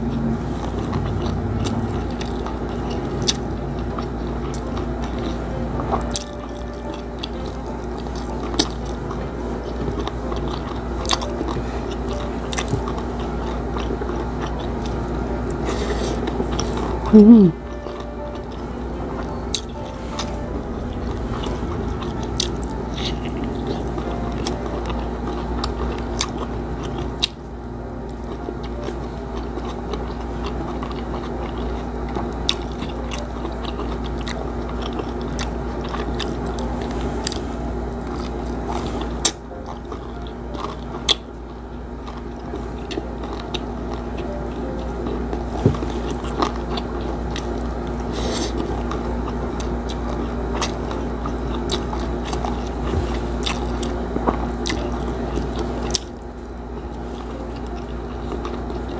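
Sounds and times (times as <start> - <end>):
crunchy chewing: 0.0 - 58.9
steady low hum: 0.0 - 58.9.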